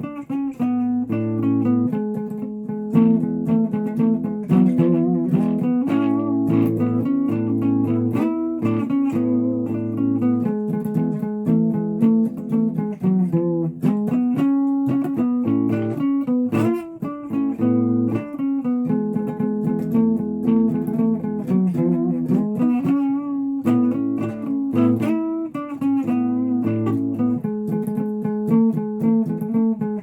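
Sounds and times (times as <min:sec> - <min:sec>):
guitar playing notes and chords: 0:00.0 - 0:30.0.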